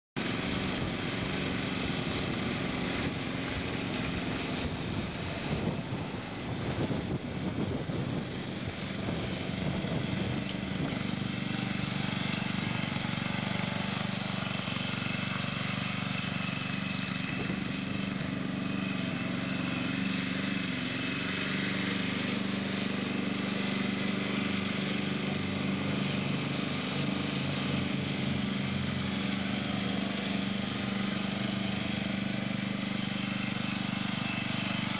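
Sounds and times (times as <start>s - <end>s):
riding lawn tractor engine running: 0.2s - 34.9s.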